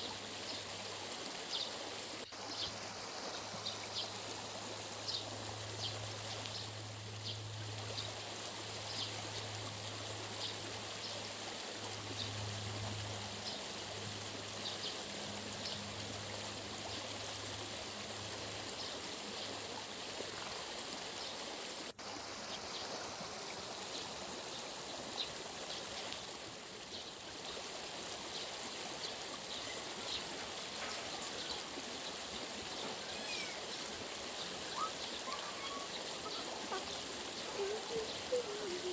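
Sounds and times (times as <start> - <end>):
flowing stream: 0.0 - 38.9.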